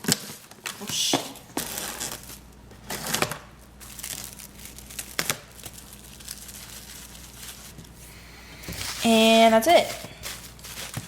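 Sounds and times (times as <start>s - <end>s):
crinkling and rustling: 0.0s - 8.0s, 8.6s - 11.0s.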